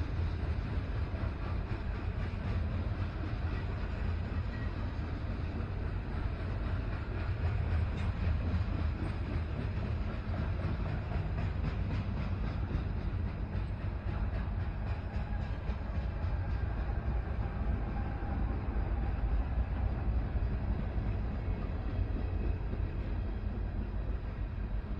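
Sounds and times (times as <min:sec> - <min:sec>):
freight train rumbling past: 0:00.0 - 0:24.9.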